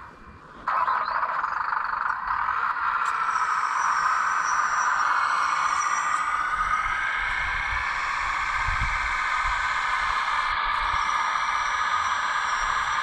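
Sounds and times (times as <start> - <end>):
small electric motor whining: 0.7 - 13.0.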